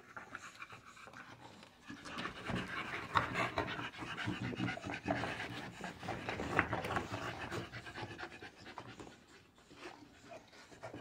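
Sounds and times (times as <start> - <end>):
dogs panting: 0.0 - 11.0.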